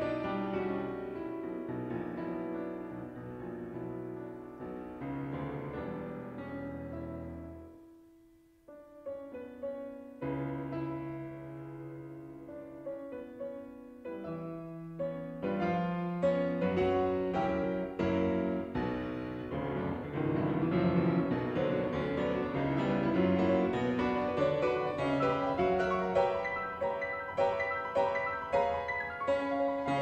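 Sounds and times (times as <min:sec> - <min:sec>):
piano music: 0:00.0 - 0:08.0, 0:08.7 - 0:30.0.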